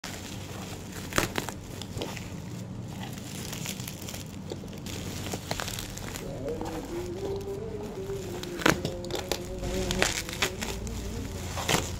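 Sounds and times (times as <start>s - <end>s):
bubble wrap crinkling: 0.0s - 11.9s.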